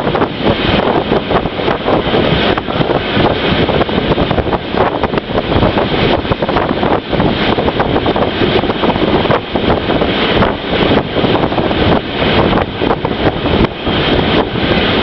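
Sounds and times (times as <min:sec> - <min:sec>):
moving train running noise: 0:00.0 - 0:15.0
wind buffeting microphone: 0:00.0 - 0:15.0.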